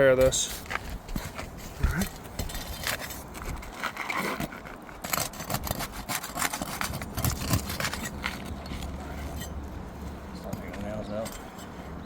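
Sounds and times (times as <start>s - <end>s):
tools scraping roof shingles: 0.0s - 12.0s.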